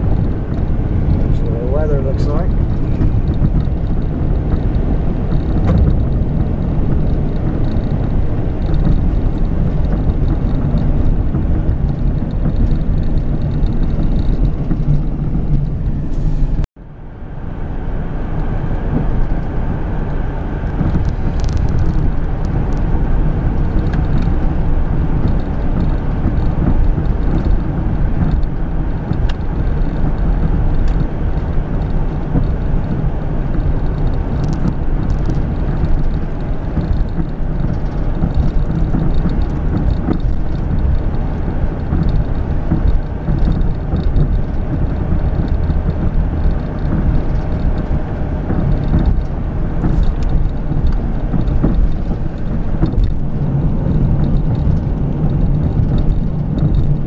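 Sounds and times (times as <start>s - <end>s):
car road and engine noise inside: 0.0s - 57.0s.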